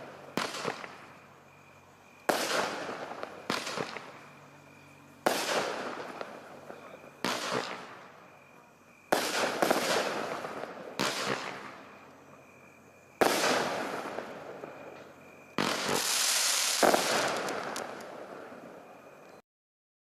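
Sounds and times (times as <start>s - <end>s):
fireworks bangs: 0.0s - 1.2s, 2.2s - 4.5s, 5.1s - 12.0s, 13.2s - 19.1s
fireworks hissing and crackling: 0.0s - 19.1s.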